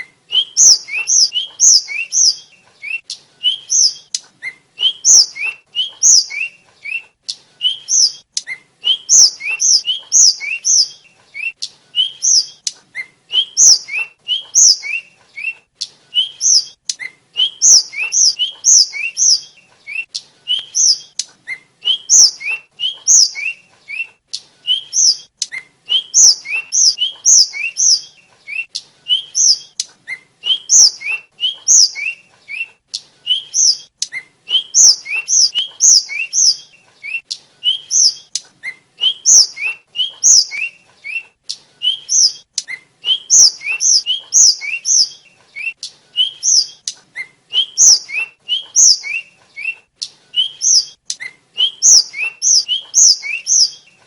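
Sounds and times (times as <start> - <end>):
bird singing high chirps: 0.0 - 54.0.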